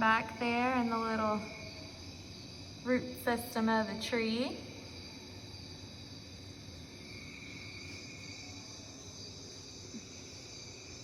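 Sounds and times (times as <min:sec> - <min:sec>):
high insect-like trill: 0:00.0 - 0:11.0.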